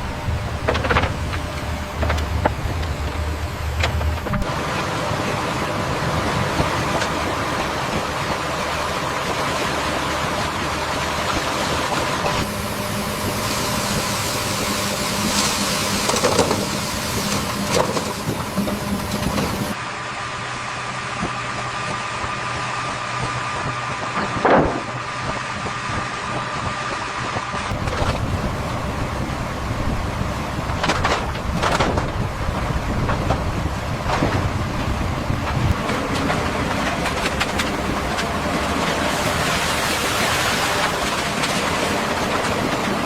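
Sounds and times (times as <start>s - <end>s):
construction machine engine running: 0.0s - 43.0s.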